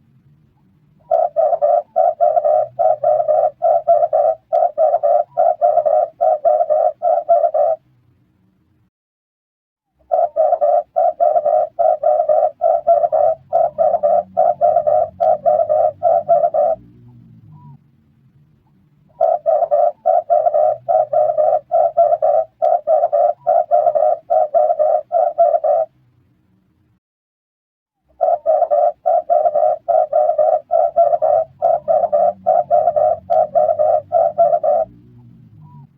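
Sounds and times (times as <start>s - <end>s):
dove cooing: 1.0s - 7.8s, 10.0s - 17.8s, 19.1s - 25.9s, 28.1s - 35.9s.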